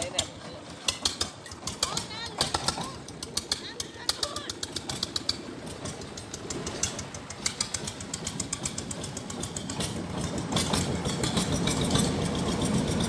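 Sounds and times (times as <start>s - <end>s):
boat engine ticking and rumbling: 0.0s - 13.0s.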